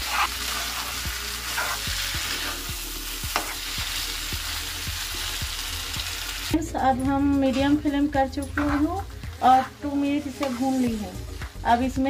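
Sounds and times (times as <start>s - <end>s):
food sizzling in a frying pan: 0.0s - 6.6s, 7.3s - 11.9s.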